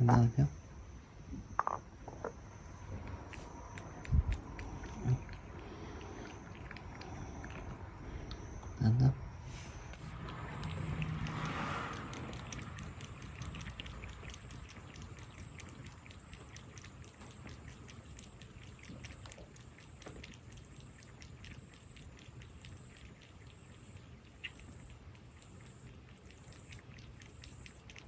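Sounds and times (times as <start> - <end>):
cat eating: 2.7 - 8.6, 9.8 - 28.0.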